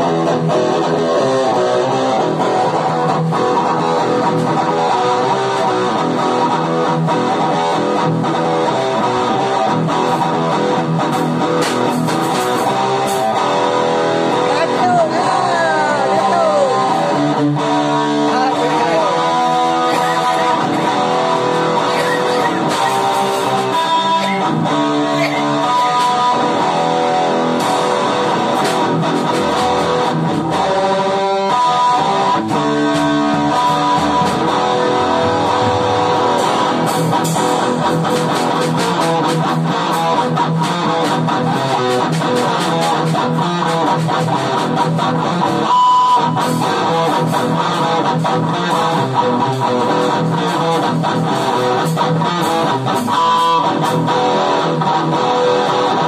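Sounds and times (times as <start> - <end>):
electric guitar metal riffs: 0.0 - 56.0.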